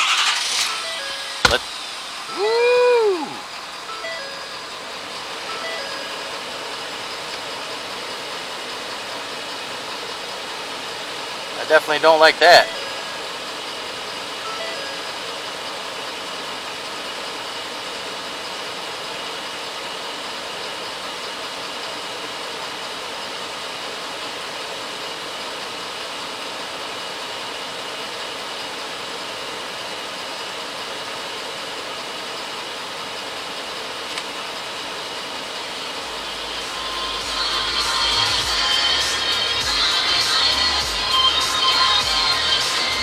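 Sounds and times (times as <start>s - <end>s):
air blower running: 0.0s - 29.8s, 33.3s - 43.0s.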